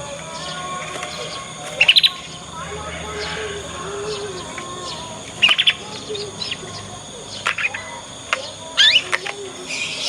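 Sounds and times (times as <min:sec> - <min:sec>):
canary chirps and twitters: 0:00.2 - 0:10.0.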